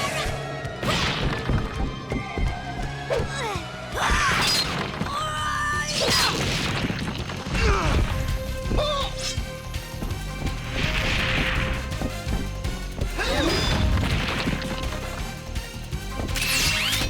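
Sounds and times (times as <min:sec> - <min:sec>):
cartoon background score: 0:00.0 - 0:17.0
fight crashes and hits: 0:00.3 - 0:09.4, 0:10.0 - 0:15.2.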